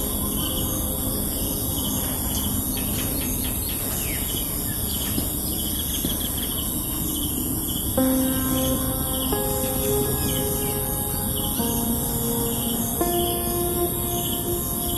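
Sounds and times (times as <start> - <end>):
low background noise: 0.0 - 14.9.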